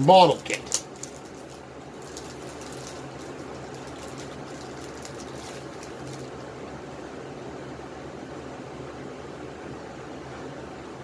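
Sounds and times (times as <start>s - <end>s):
room hum and hiss: 0.0s - 11.0s.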